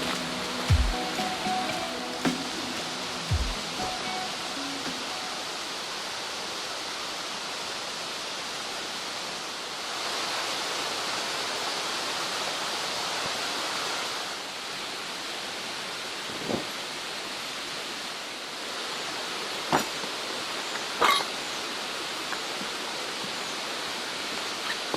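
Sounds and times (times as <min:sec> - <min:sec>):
stream water rushing over rocks: 0:00.0 - 0:24.9.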